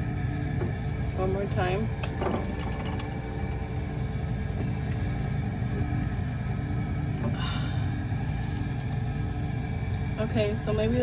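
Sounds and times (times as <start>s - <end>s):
low mechanical rumble and hum: 0.0s - 11.0s.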